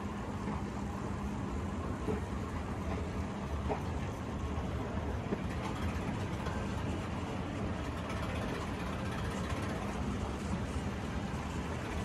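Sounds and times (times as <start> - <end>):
escalator hum and rumble: 0.0 - 12.0.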